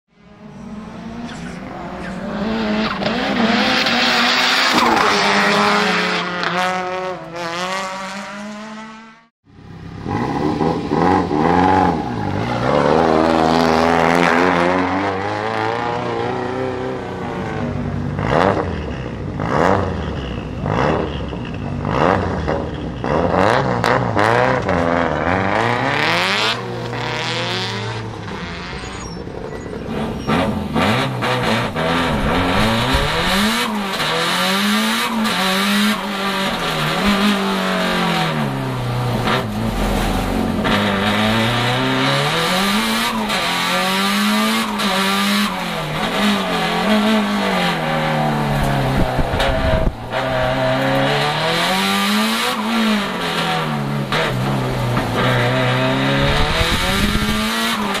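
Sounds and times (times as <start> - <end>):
race car engine revving hard: 0.3 - 9.3, 10.0 - 58.0.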